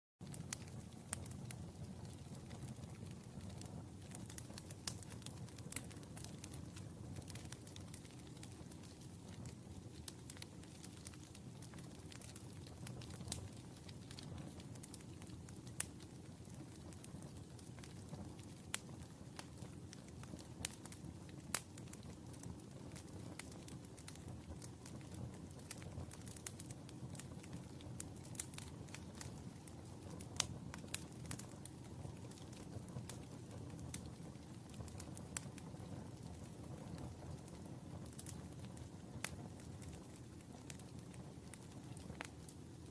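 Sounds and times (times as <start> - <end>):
fire crackling and popping: 0.2 - 42.9
wood fire rumbling: 0.2 - 42.9.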